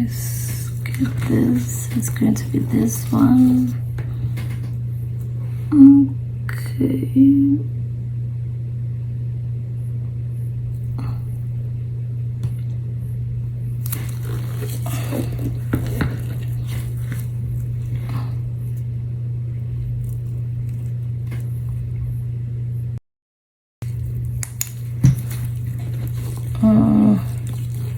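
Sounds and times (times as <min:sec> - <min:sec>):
steady low hum: 0:00.0 - 0:23.0, 0:23.8 - 0:27.9.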